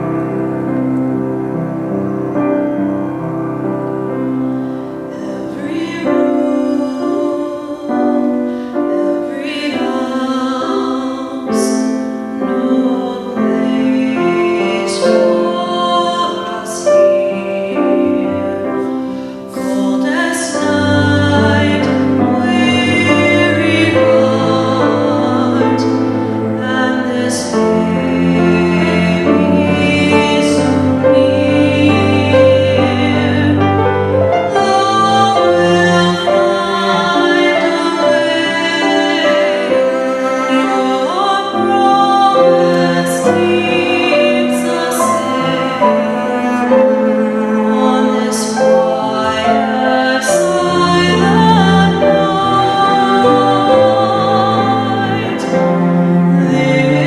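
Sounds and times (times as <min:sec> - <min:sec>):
instrumental accompaniment: 0:00.0 - 0:57.0
voices singing sacred piece: 0:00.0 - 0:57.0.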